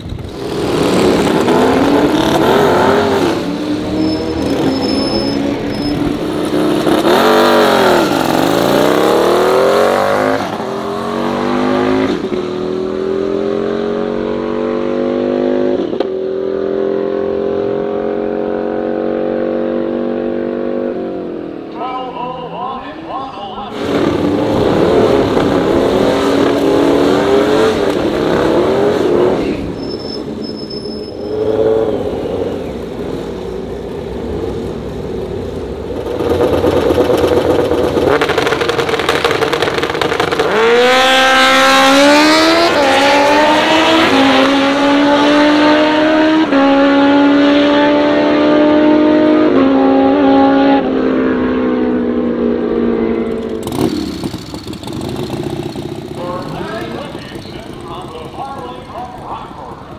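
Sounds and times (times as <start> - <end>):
motorcycle engine revving: 0.0 - 21.6, 23.8 - 59.9
second motorcycle: 0.0 - 21.7, 23.8 - 59.9.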